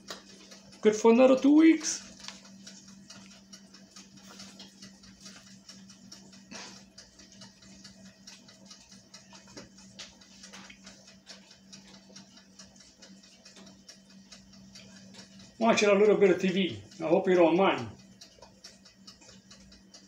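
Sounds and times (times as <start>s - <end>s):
small clicks and ticks: 0.0s - 20.0s.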